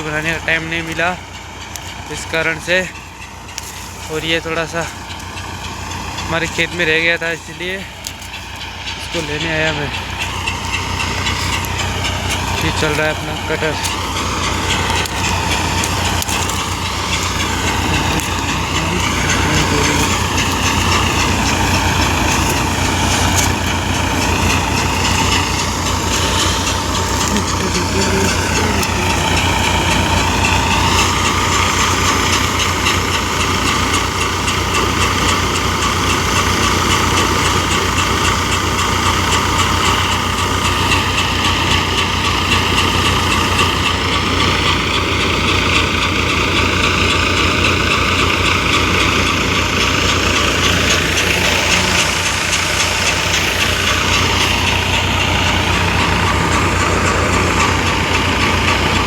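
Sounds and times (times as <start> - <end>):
low engine hum: 0.0 - 59.0
rattling machine drone: 0.0 - 59.0.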